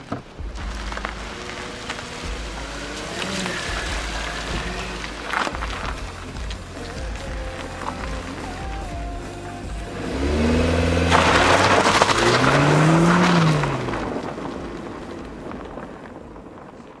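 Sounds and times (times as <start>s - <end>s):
tyres churning sand: 0.0s - 17.0s
car engine revving hard: 0.4s - 15.9s.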